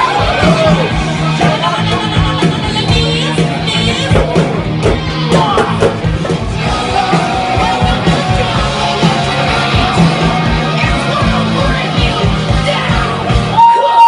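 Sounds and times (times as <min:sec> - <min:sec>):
loud rock music with singing: 0:00.0 - 0:14.0.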